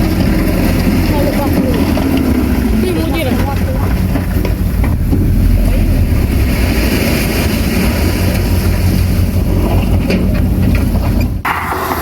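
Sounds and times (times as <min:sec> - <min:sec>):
diesel engine of earthmoving machinery: 0:00.0 - 0:12.0.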